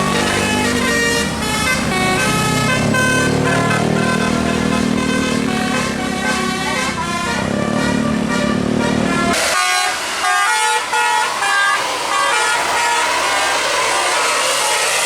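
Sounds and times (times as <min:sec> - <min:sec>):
musical air horn playing a tune: 0:00.0 - 0:13.7.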